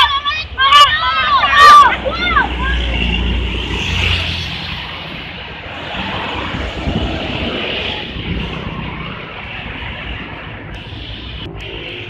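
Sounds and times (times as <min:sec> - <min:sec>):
steady road hiss: 0:00.0 - 0:12.0.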